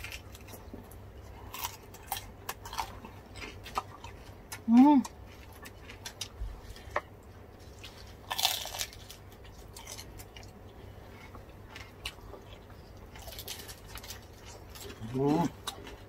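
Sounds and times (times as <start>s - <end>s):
crunching crispy food: 0.0s - 0.6s, 1.3s - 6.9s, 7.6s - 10.6s, 11.7s - 16.0s.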